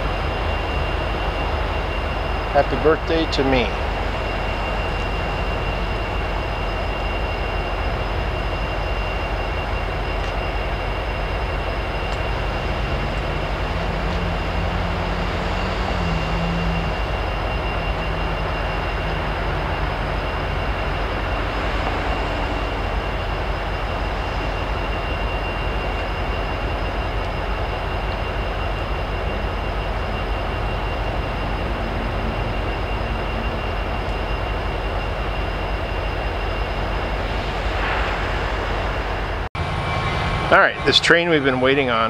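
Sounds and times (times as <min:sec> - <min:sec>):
high whine: 0:00.0 - 0:42.0
locomotive idling rumble: 0:00.0 - 0:42.0.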